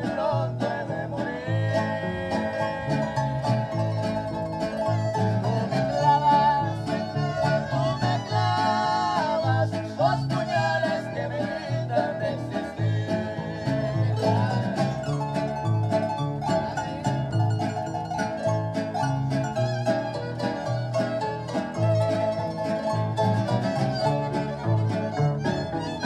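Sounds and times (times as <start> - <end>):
harp plucking bass pattern: 0.0 - 26.0
strummed strings: 0.0 - 26.0
sustained melody line: 1.4 - 26.0.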